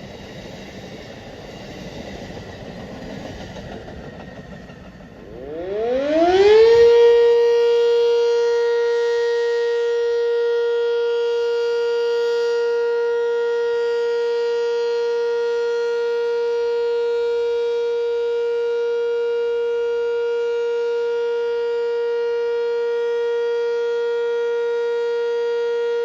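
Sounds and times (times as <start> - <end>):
passing train: 0.0 - 26.0.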